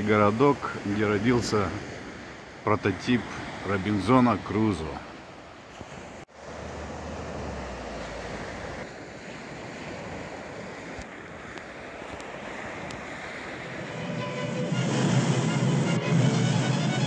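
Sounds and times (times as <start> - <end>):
small waves washing onto beach: 0.0 - 16.9.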